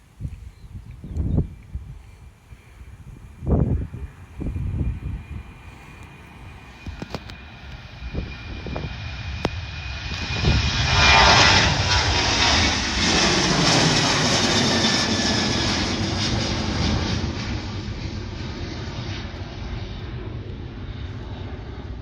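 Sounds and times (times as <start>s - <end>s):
jet airliner engines passing: 0.1s - 22.0s.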